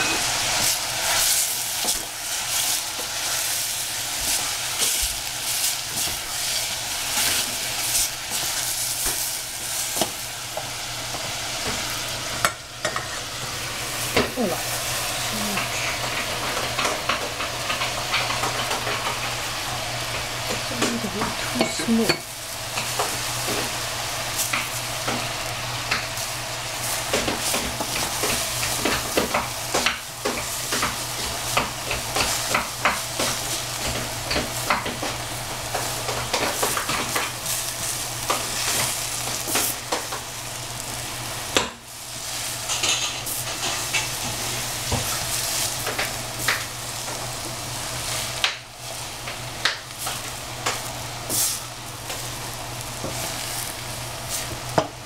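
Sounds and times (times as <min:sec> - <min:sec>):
vegetables sizzling in a saucepan: 0:00.0 - 0:55.0.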